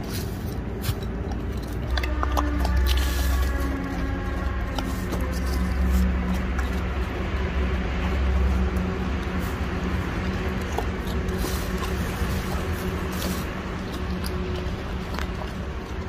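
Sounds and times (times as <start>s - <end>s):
bears crunching biscuits: 0.0s - 16.0s
low mechanical rumble: 0.0s - 16.0s.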